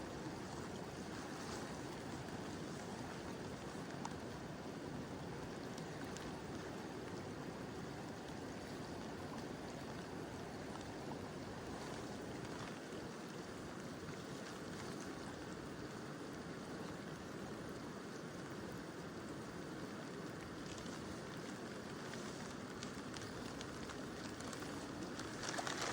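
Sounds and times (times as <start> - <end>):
gentle rain falling: 0.0 - 25.9
river flowing: 0.0 - 25.9.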